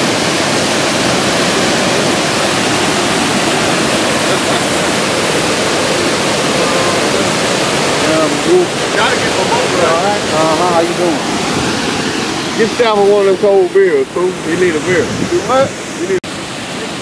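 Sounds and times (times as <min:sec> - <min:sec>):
water rushing over dam spillway: 0:00.0 - 0:17.0.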